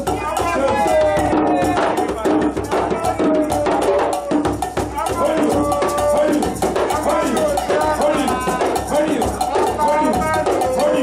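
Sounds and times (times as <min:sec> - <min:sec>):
hand drums: 0:00.0 - 0:11.0
rattling percussion: 0:00.0 - 0:11.0.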